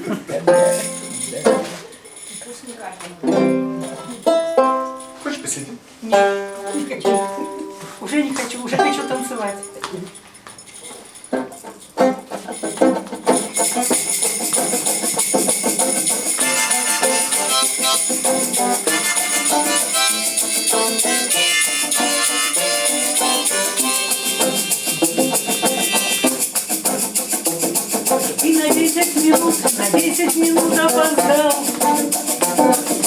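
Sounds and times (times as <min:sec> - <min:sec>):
shaker rhythm: 0:00.0 - 0:33.0
instrumental melody: 0:00.4 - 0:33.0.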